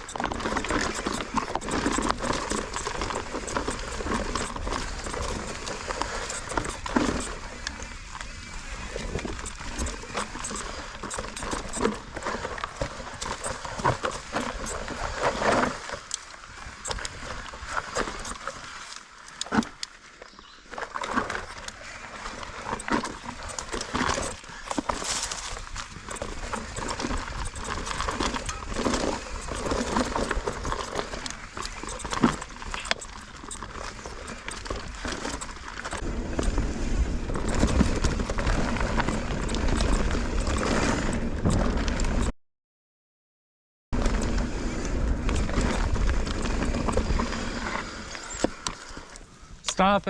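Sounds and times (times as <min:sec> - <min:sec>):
bike tyres crunching on rock: 0:00.0 - 0:42.2, 0:44.0 - 0:49.7
bike rattling and clattering: 0:00.0 - 0:42.3, 0:44.0 - 0:49.9.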